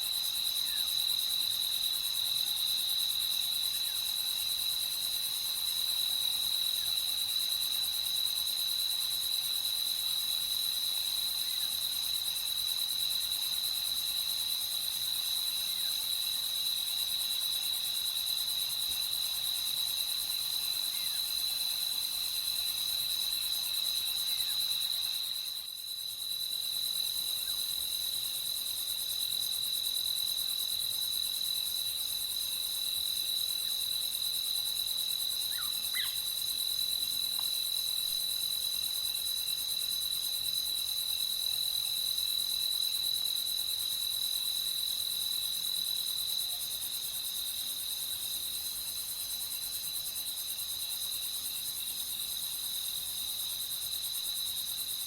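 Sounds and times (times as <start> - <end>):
crickets trilling: 5.9 - 55.0.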